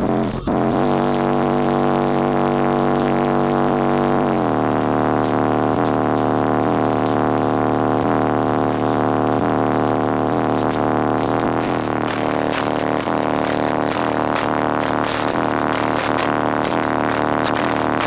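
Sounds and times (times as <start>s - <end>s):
bass-heavy music: 0.0s - 18.0s.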